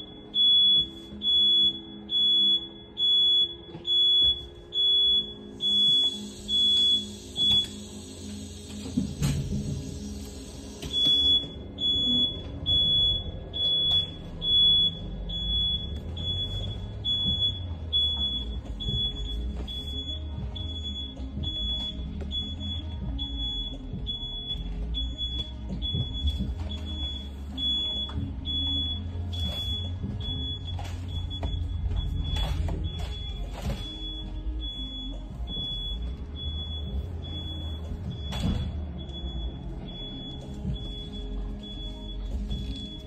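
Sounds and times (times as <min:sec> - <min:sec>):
reverse warning beeper: 0:00.0 - 0:09.0, 0:09.8 - 0:43.0
low hum of bus: 0:00.0 - 0:43.0.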